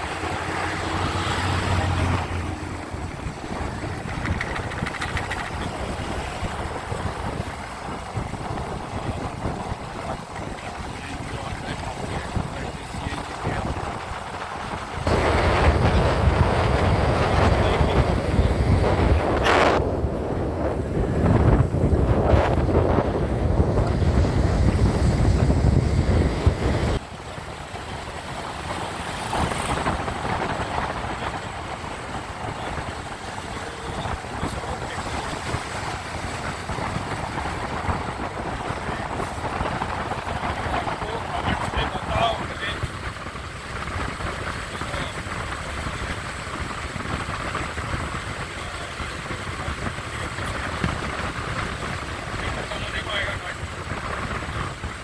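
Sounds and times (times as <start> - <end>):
motorcycle road noise: 0.0 - 55.0
wind buffeting microphone: 0.0 - 55.0.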